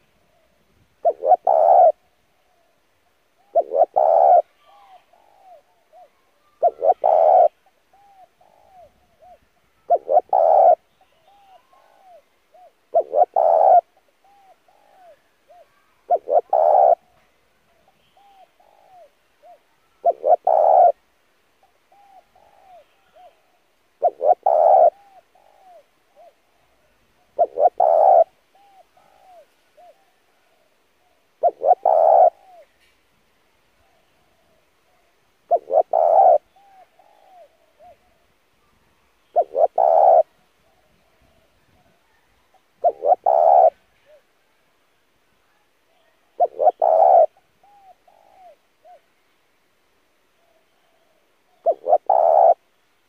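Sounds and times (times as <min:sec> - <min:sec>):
dove cooing: 0:00.0 - 0:02.8, 0:03.4 - 0:17.2, 0:17.8 - 0:21.0, 0:21.8 - 0:32.9, 0:33.8 - 0:38.3, 0:39.2 - 0:44.3, 0:46.0 - 0:49.0, 0:50.4 - 0:52.6.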